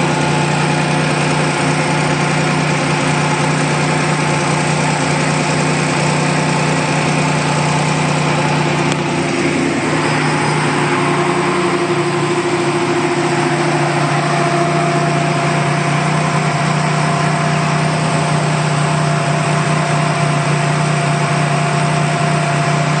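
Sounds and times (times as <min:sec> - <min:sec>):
turbocharged engine idling: 0:00.0 - 0:23.0.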